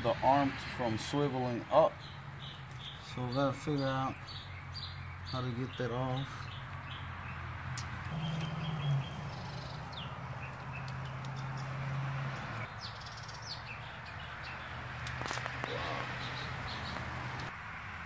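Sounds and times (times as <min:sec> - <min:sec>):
small birds chirping: 0:00.9 - 0:17.6.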